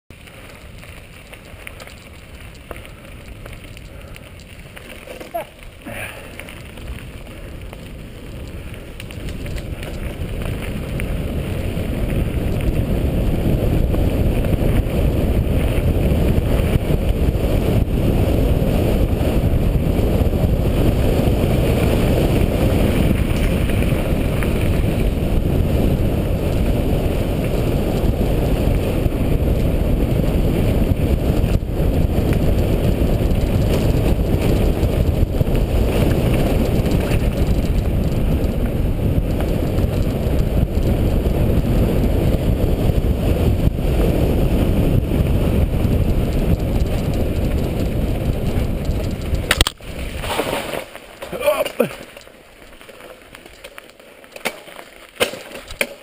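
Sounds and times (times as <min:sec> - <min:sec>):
wind buffeting microphone: 0:00.1 - 0:53.6
bike tyres on gravel: 0:00.1 - 0:56.0.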